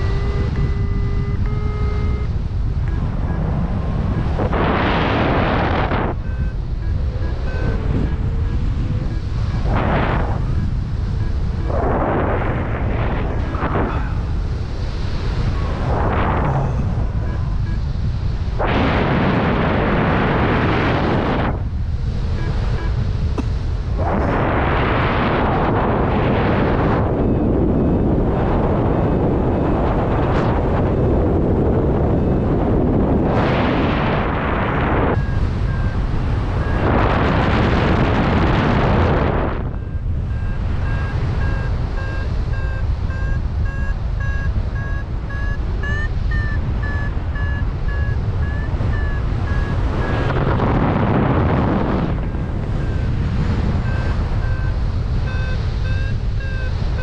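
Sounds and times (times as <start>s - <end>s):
variometer beeping: 0.0s - 13.7s, 14.3s - 24.2s, 34.2s - 57.0s
wind buffeting microphone: 0.0s - 57.0s.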